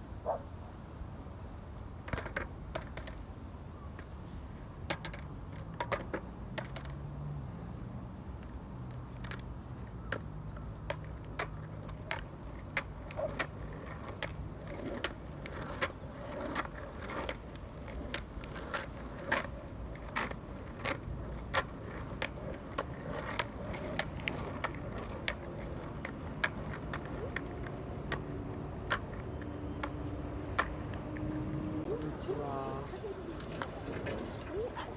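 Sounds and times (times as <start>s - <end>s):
skateboard wheels rumbling on pavement: 1.3s - 34.9s
skateboard wheels clicking over joints: 2.0s - 7.4s, 8.4s - 31.0s, 31.8s - 34.9s.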